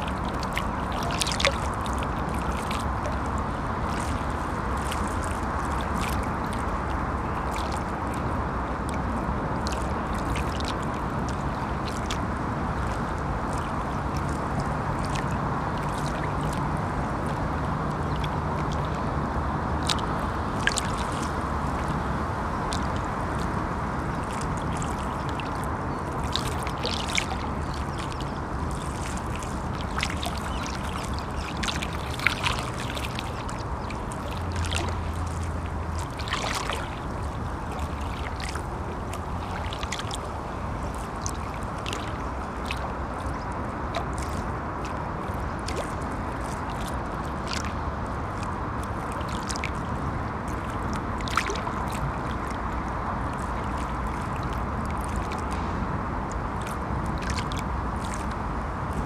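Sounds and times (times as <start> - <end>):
low rumble of traffic: 0.0 - 59.0
water lapping at shore: 0.0 - 59.0.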